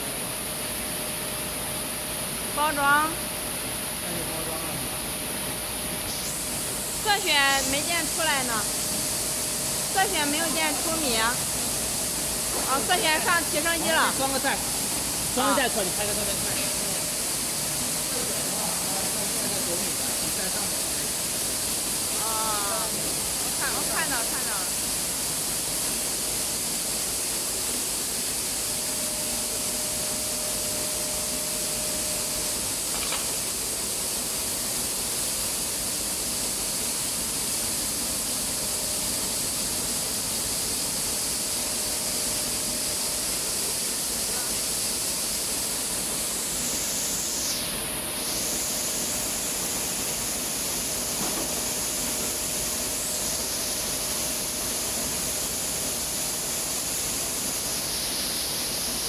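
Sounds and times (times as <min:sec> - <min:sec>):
milling machinery rushing hiss: 0:00.0 - 0:59.0.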